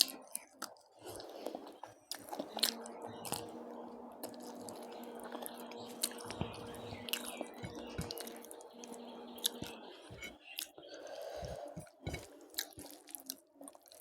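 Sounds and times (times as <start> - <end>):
person chewing food: 0.0 - 3.6, 4.2 - 14.0.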